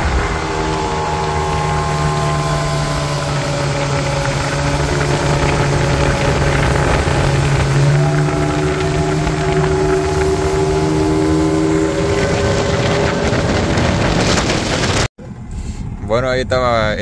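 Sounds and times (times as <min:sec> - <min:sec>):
rushing wake water: 0:00.0 - 0:15.1
motorboat engine running: 0:00.0 - 0:16.0
wind: 0:00.0 - 0:17.0.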